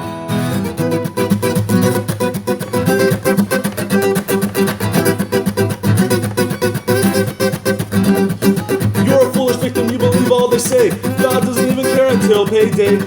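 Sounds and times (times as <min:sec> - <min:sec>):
acoustic guitar strumming ska rhythm: 0:00.0 - 0:13.0.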